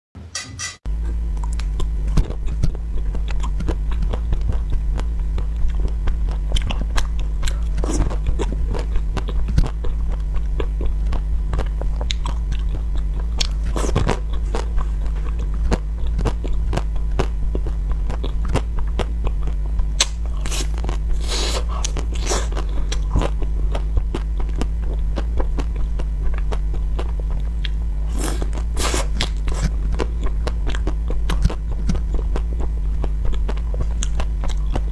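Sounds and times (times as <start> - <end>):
steady low hum: 0.2 - 34.9.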